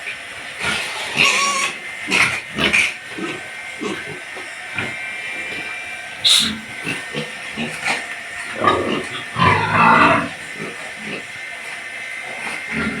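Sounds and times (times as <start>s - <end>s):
piglets grunting: 0.0s - 13.0s
piglets squealing: 0.6s - 11.3s.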